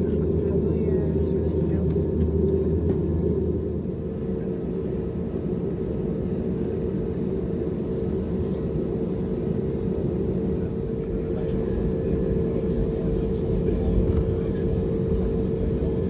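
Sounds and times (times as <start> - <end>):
aircraft engines rumbling: 0.0 - 16.0.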